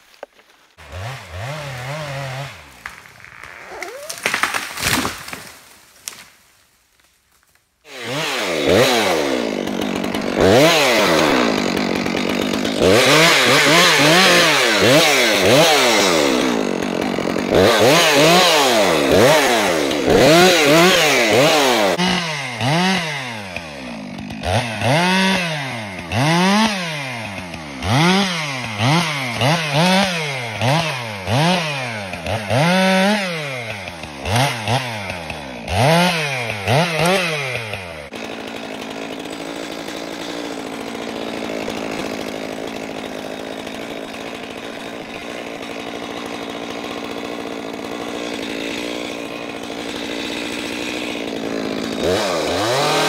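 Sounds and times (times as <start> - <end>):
chainsaw cutting wood: 0.0 - 6.5, 7.5 - 53.0.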